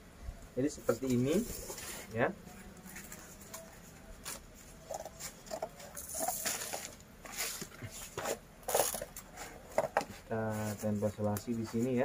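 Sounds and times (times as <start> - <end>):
cardboard scraping and rustling: 0.9 - 2.1, 2.9 - 12.0.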